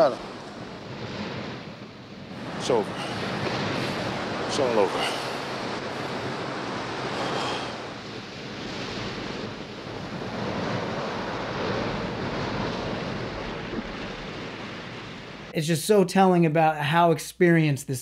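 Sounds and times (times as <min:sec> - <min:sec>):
ocean surf breaking: 0:00.0 - 0:15.7
wind: 0:00.0 - 0:18.0.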